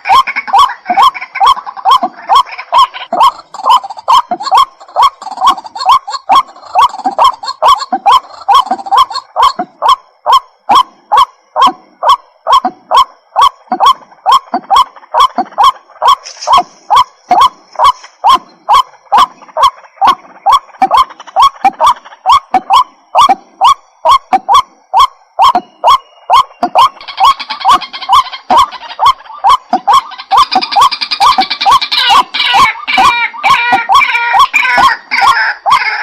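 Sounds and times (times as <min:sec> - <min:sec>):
bird repeated short calls: 0:00.0 - 0:36.0.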